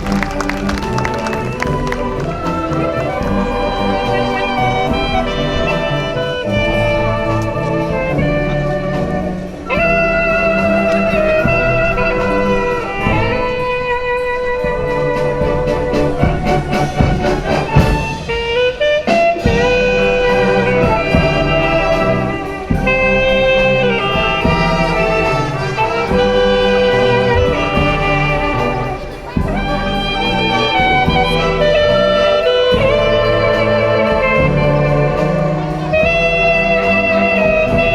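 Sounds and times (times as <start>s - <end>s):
wind band playing: 0.0s - 37.9s.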